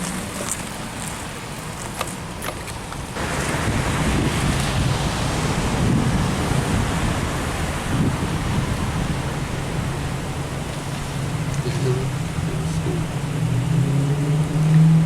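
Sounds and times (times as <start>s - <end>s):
vehicle engine hum: 0.0s - 15.0s
wind on microphone: 2.6s - 15.0s.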